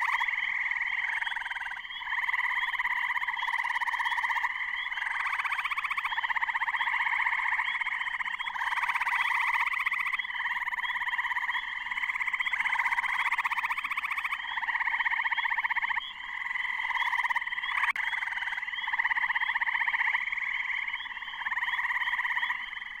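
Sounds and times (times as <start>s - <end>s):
frogs trilling: 0.0s - 23.0s.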